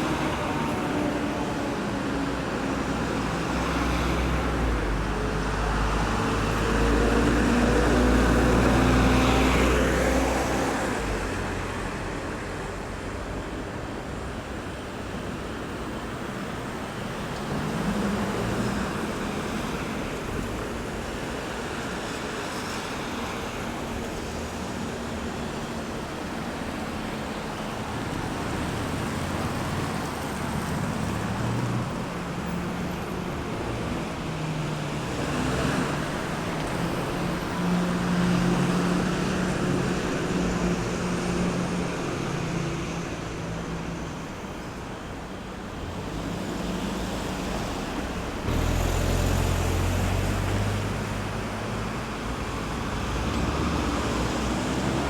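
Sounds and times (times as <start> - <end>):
heavy vehicle engine drone: 0.0 - 55.0
road traffic passing: 0.0 - 55.0.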